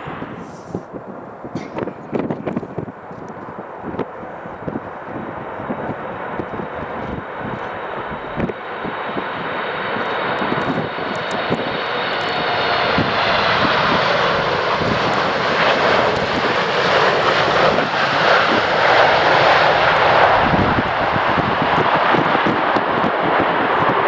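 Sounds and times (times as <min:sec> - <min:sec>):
jet engine roar: 0:00.0 - 0:24.0
wind buffeting microphone: 0:00.0 - 0:24.0.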